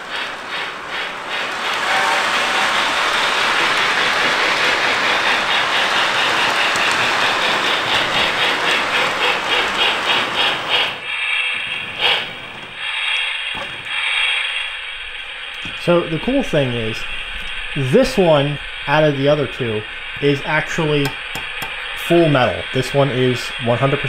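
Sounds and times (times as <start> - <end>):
rhythmic locomotive chuff: 0.0 - 24.0
steam hiss: 0.0 - 24.0.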